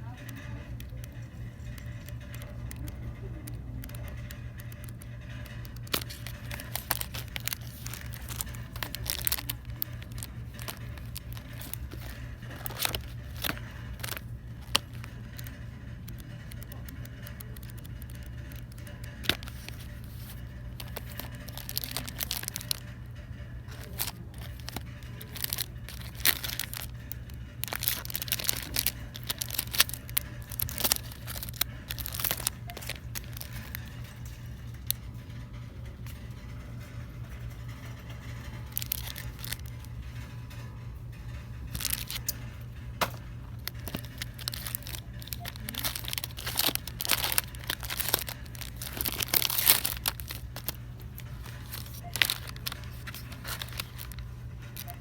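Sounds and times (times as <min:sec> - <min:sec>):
plastic packaging crinkling: 0:00.0 - 0:35.0, 0:37.4 - 0:40.6, 0:41.3 - 0:55.0
sharp clicks and crackles: 0:00.0 - 0:35.4, 0:37.2 - 0:55.0
steady low hum: 0:00.0 - 0:55.0.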